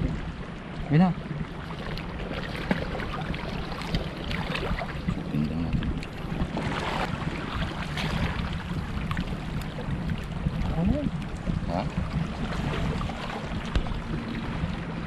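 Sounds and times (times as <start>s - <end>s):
shallow seawater sloshing: 0.0s - 15.0s
wind buffeting microphone: 0.0s - 15.0s.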